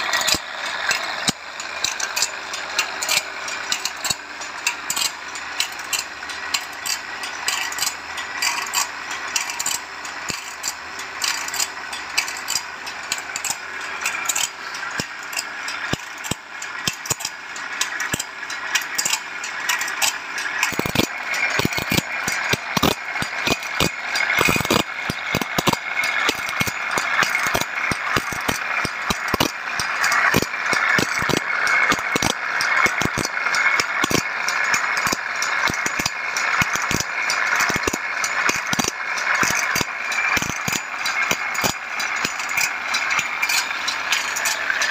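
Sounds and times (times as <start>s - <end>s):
grinding wheel rasping on blade: 0.0s - 44.9s
machine clicking: 0.0s - 44.9s.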